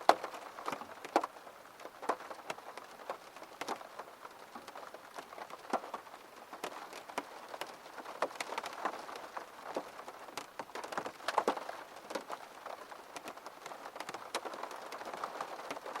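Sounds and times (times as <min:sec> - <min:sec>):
rain tapping on a hard surface: 0:00.0 - 0:16.0.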